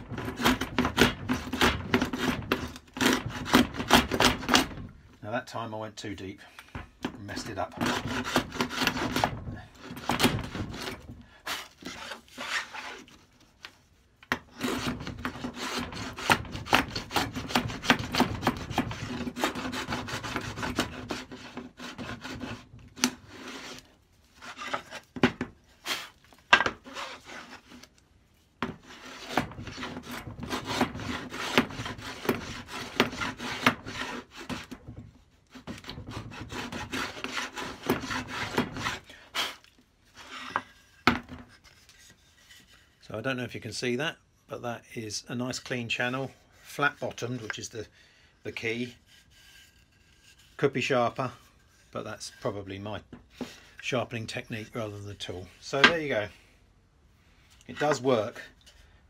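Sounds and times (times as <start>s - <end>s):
plane blade scraping wood: 0.0s - 4.9s, 7.0s - 28.0s, 28.6s - 43.0s, 45.7s - 47.9s, 48.5s - 56.3s, 57.6s - 58.8s.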